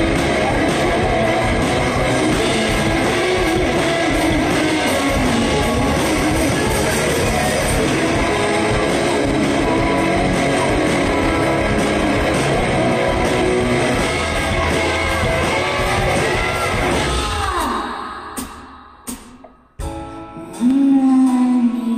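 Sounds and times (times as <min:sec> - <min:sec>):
electric guitars: 0:00.0 - 0:17.9
rock band playing live: 0:00.0 - 0:21.9.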